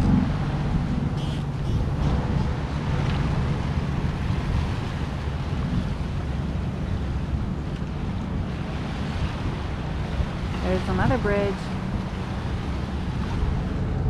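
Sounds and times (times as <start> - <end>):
diesel engine hum: 0.0 - 14.0
waves washing along hull: 0.0 - 14.0
wind buffeting microphone: 0.0 - 14.0.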